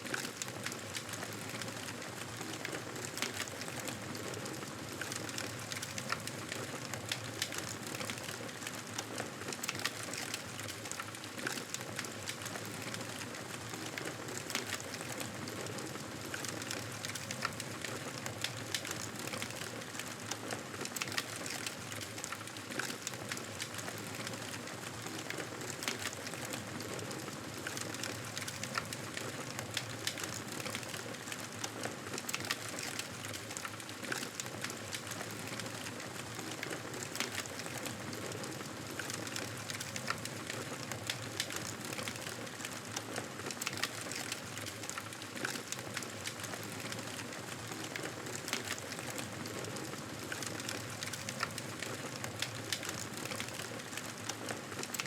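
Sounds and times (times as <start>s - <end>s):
fire popping and crackling: 0.1s - 55.0s.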